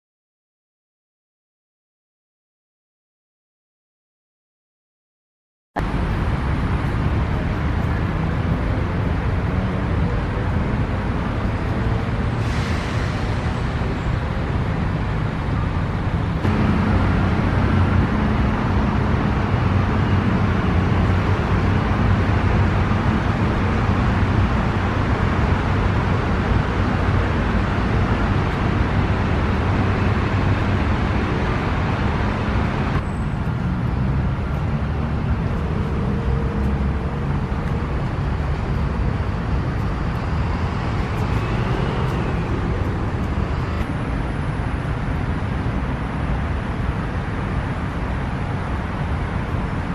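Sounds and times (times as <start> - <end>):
distant road traffic rumble: 5.8 - 49.9.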